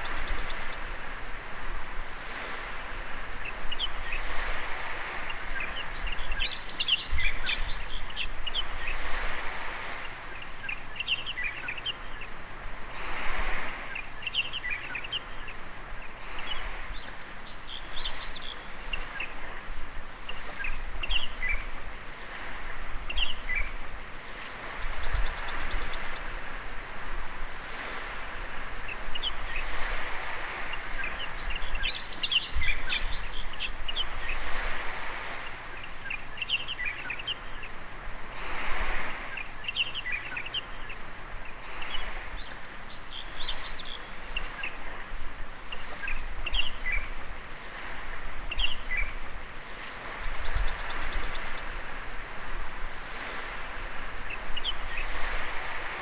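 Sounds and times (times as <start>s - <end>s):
birds chirping: 0.0s - 1.3s, 2.6s - 12.4s, 13.4s - 27.0s, 27.7s - 52.3s, 53.0s - 56.0s
small waves washing on beach: 0.0s - 56.0s.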